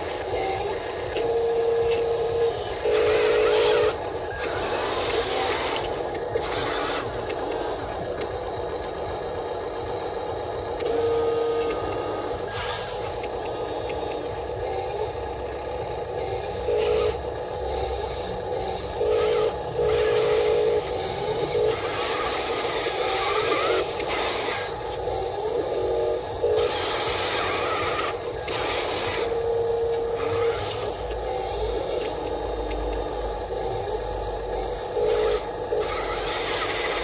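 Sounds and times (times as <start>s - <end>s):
small electric motors whining: 0.0s - 37.0s.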